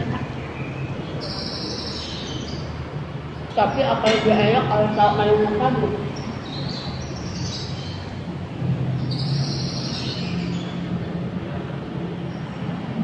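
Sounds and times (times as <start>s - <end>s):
birds chirping: 0.0s - 8.3s, 9.0s - 12.8s.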